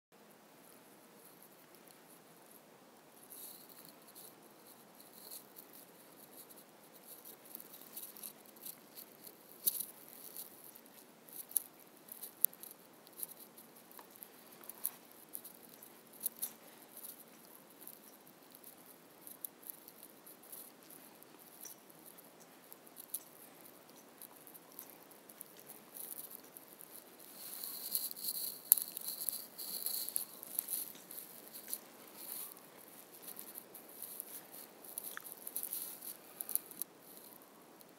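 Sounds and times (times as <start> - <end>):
room hiss: 0.2 - 37.9
high crackle: 0.6 - 37.9.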